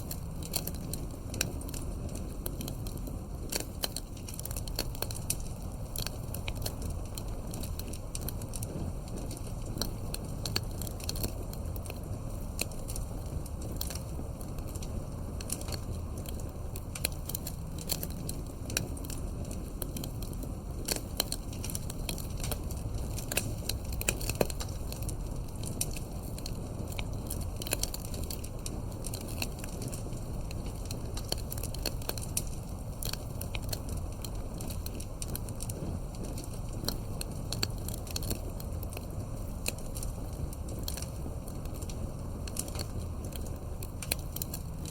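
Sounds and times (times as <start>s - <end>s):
low rumble of burning: 0.0s - 44.9s
wood fire crackling and popping: 0.0s - 44.9s.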